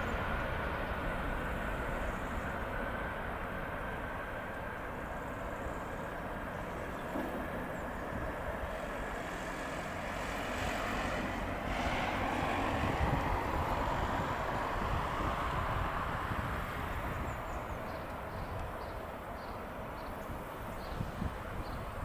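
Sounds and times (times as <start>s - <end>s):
faint engine whine: 0.0s - 22.0s
jet engines rumbling: 0.0s - 22.0s.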